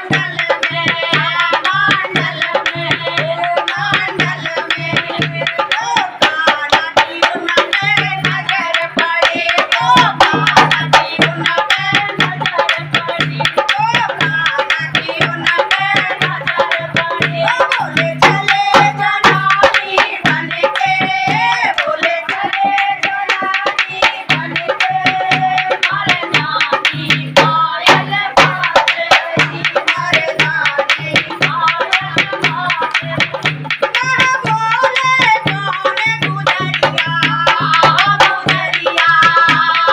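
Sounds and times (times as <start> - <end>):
hand drums: 0.0 - 39.9
woman singing: 0.0 - 39.9
clicking percussion: 0.1 - 39.9.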